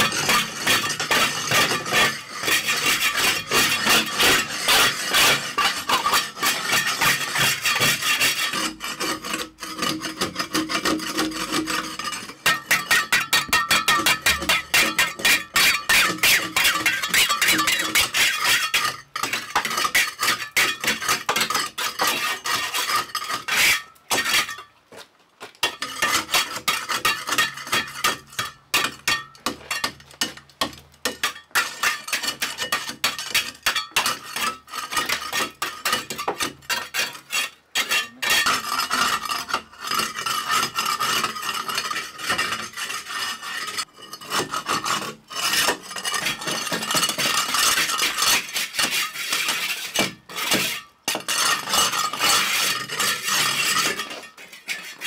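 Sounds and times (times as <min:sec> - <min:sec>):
trowels scraping on brick: 0:00.0 - 0:24.7, 0:25.6 - 0:55.0.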